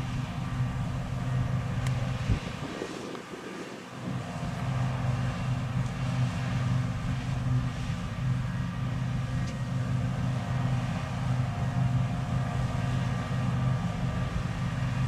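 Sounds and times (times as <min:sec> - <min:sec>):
combine harvester engine droning: 0:00.0 - 0:02.8, 0:04.0 - 0:15.0.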